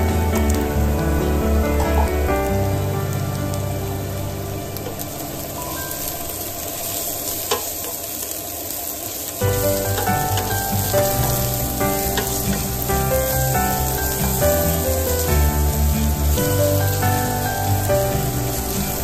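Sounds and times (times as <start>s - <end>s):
background music: 0.0s - 6.6s, 9.4s - 19.0s
ginger sizzling in oil: 0.0s - 19.0s.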